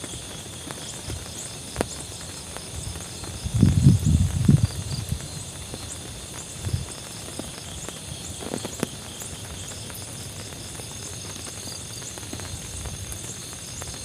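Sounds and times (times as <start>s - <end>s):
insects chirping: 0.0s - 14.0s
steady rain: 0.0s - 14.0s.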